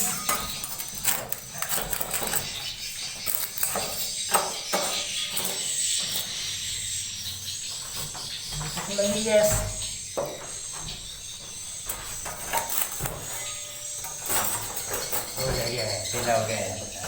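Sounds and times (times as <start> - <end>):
swiftlets chittering and clicking: 0.0 - 17.0.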